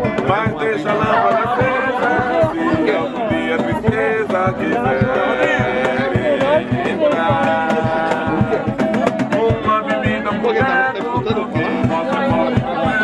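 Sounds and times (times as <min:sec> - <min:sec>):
acoustic guitars strummed: 0:00.0 - 0:13.0
cajon beating: 0:00.0 - 0:13.0
people singing along: 0:00.0 - 0:13.0.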